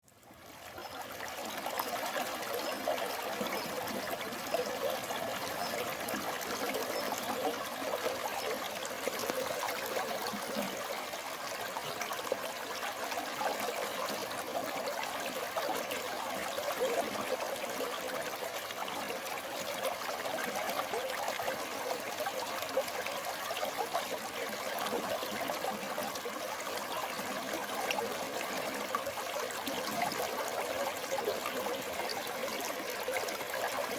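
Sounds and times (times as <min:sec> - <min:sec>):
stream water flowing: 0:00.0 - 0:33.9.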